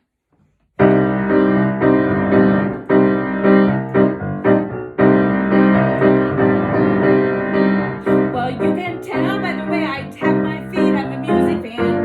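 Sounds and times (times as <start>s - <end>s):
piano playing rhythmic chords: 0.8s - 12.0s.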